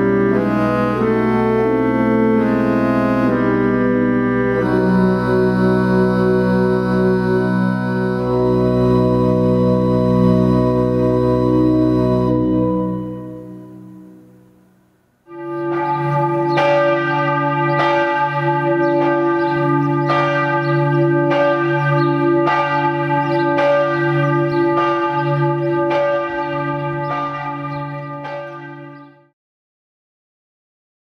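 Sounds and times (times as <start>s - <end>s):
church bell tolling: 0.0s - 29.3s.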